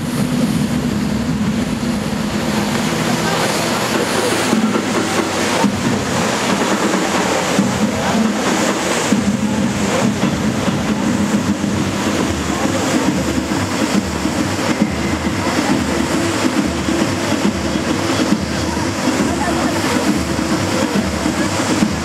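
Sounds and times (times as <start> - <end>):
audience voices: 0.0 - 22.0
fountain water rushing: 0.0 - 22.0.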